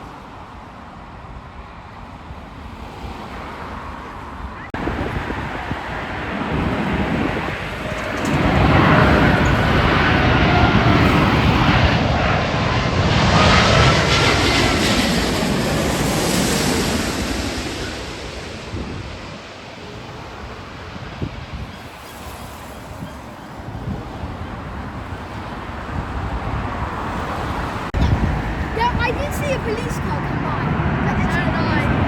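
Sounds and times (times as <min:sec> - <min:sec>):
jet airliner engines roaring: 0:00.0 - 0:32.0.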